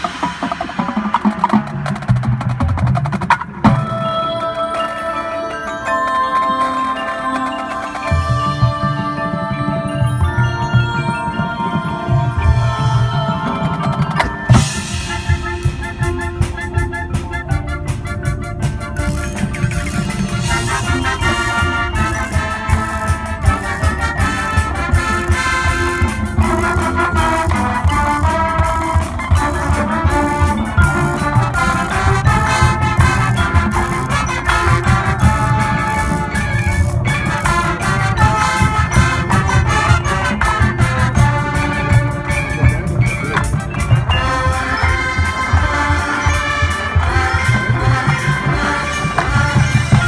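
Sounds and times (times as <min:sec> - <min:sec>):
drums beating: 0:00.0 - 0:04.4, 0:08.0 - 0:50.0
brass melody: 0:00.0 - 0:50.0
mallet keyboard notes: 0:00.0 - 0:50.0.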